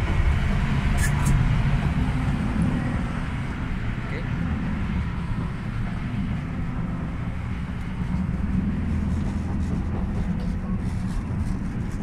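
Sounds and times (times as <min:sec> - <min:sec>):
train rumbling inside passenger car: 0:00.0 - 0:12.0.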